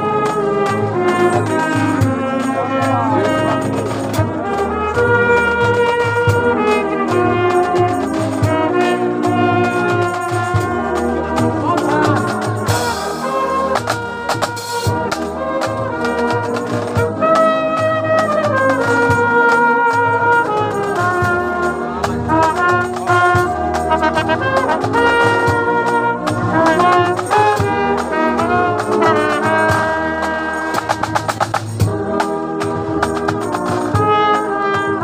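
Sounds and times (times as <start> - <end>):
drum beats: 0.0 - 34.5
brass melody: 0.0 - 35.0.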